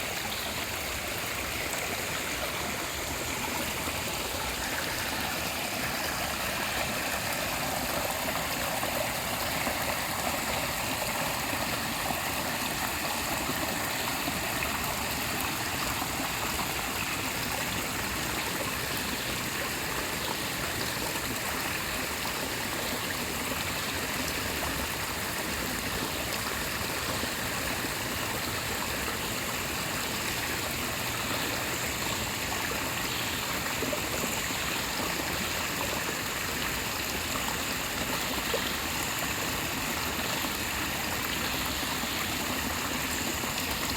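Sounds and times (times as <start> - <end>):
forest stream flowing: 0.0 - 43.9.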